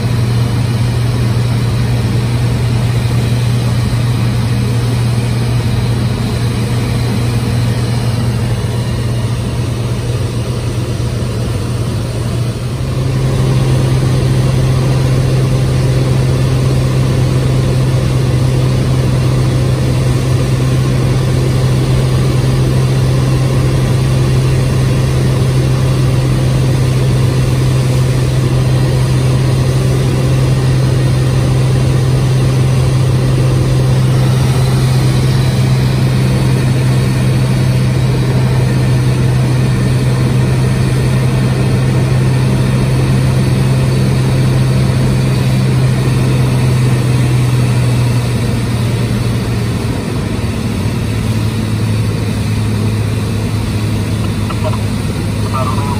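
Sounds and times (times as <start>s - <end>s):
aircraft engine and propeller drone: 0.0s - 55.9s.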